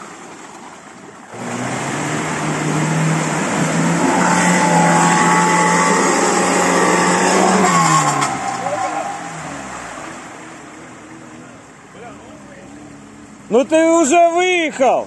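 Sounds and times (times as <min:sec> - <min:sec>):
car engine revving: 0:01.3 - 0:14.0.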